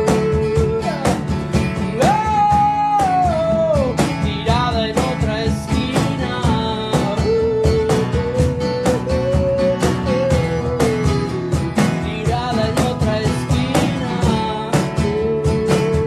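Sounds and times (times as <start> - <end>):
acoustic bass: 0.0 - 16.0
steady percussion beat: 0.0 - 16.0
strummed acoustic guitars: 0.0 - 16.0.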